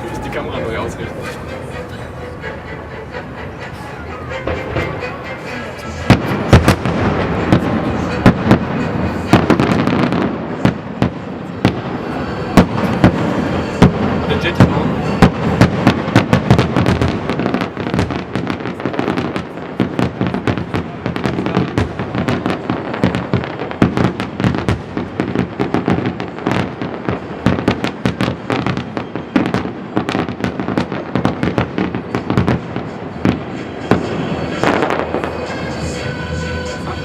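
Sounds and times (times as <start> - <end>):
firework bangs: 5.7 - 37.0.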